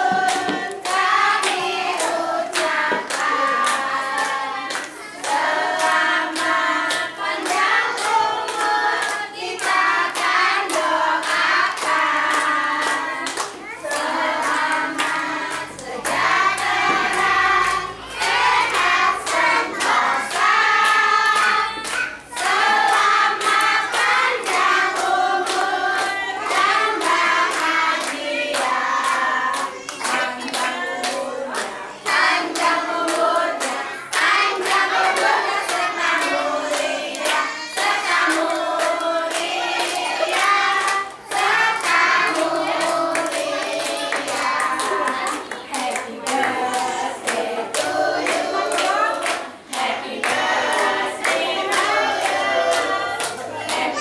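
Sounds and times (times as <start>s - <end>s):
group singing birthday song: 0.0s - 54.0s
people clapping in time: 0.0s - 54.0s.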